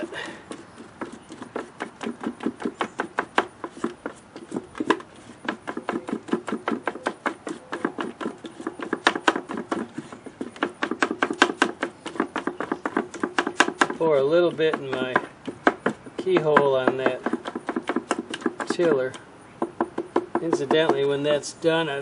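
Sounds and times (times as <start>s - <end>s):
stick tapping against container: 0.5s - 21.1s.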